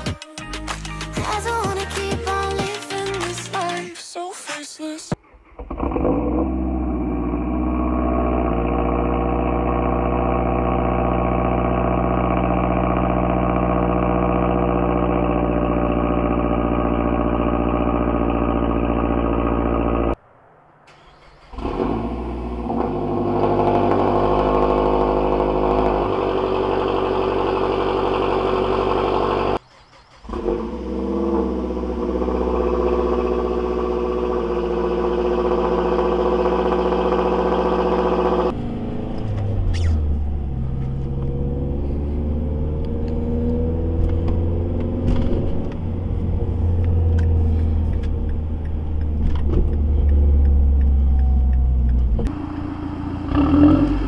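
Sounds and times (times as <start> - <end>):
car engine idling: 5.2 - 20.2, 20.8 - 54.0.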